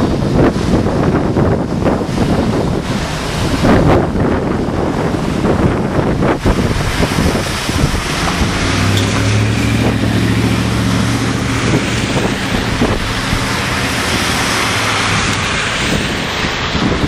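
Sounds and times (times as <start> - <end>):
tyres splashing through water: 0.0 - 17.0
vehicle engine humming: 0.0 - 17.0.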